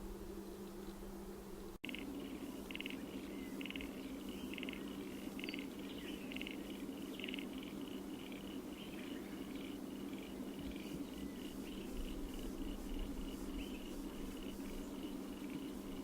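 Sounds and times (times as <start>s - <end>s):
bird calling buzzy trills: 1.8s - 16.0s.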